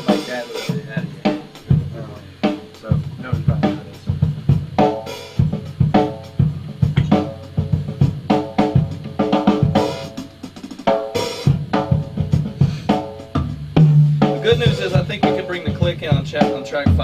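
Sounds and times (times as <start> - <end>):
snare and bass drum hits: 0.0 - 17.0.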